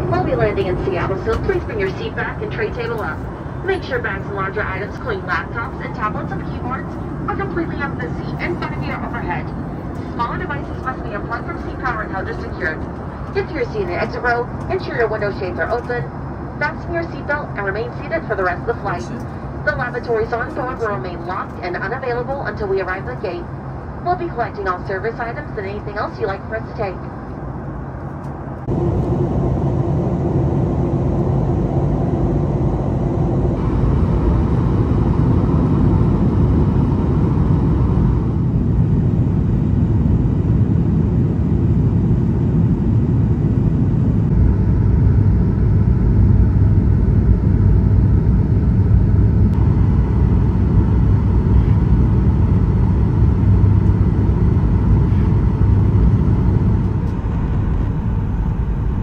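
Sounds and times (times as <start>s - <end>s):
airplane cabin engine noise: 0.0s - 59.0s.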